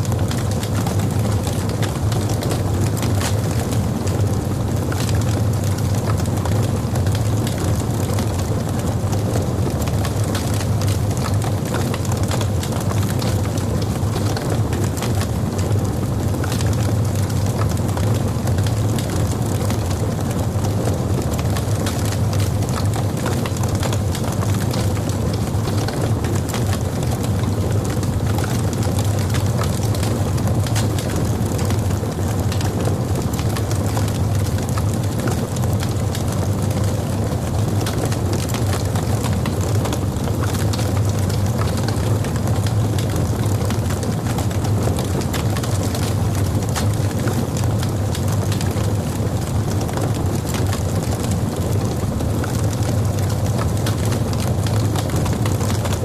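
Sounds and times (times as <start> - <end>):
log fire crackling and popping: 0.0 - 56.0.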